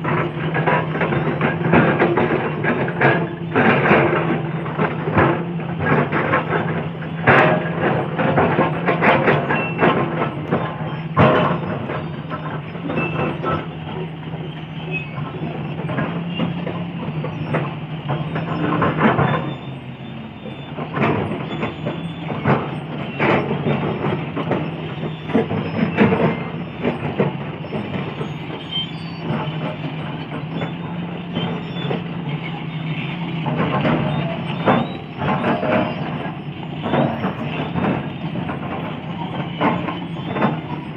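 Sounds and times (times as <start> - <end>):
excavator diesel engine humming: 0.0 - 40.9
metallic clanks and knocks: 0.0 - 40.9.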